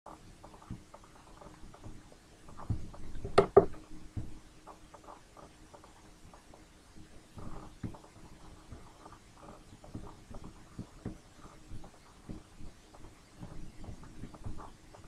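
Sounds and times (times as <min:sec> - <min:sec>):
faint clicks and knocks: 0:00.1 - 0:15.0.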